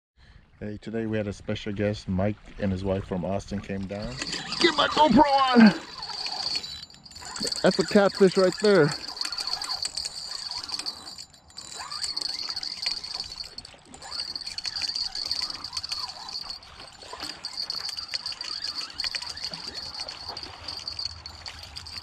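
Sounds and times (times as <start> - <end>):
water splashing: 2.4 - 10.2, 11.4 - 22.0.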